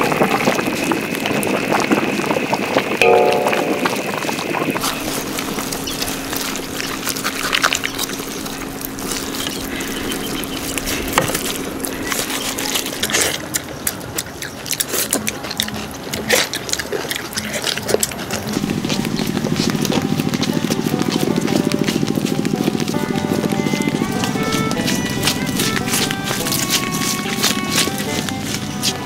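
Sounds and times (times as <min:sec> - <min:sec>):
water pouring and splashing: 0:03.7 - 0:29.0.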